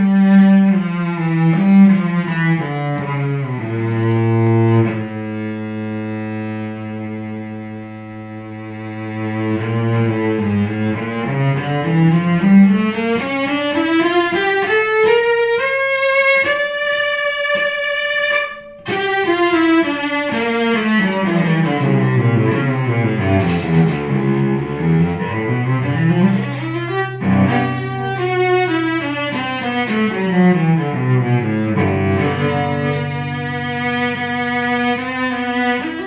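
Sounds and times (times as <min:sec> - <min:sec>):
bowed cello melody: 0:00.0 - 0:36.0.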